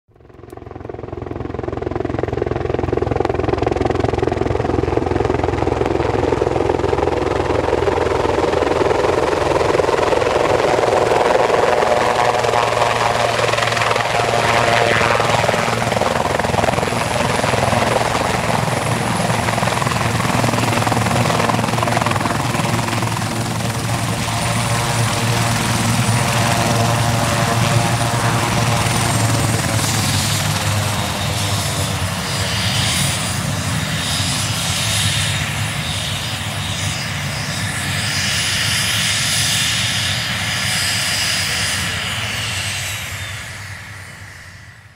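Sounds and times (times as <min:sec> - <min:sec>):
helicopter rotor noise: 0:00.1 - 0:44.9
high-pitched helicopter whine: 0:00.2 - 0:44.9.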